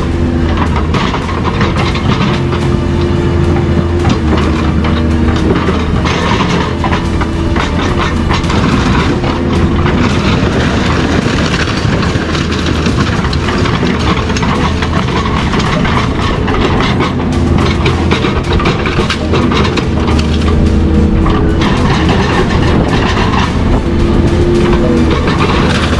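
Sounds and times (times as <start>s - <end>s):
low machine hum: 0.0s - 25.9s.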